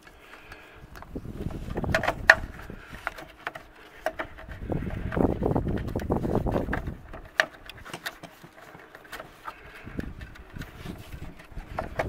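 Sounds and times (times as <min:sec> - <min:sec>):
cable scraping in hole: 0:00.0 - 0:12.0.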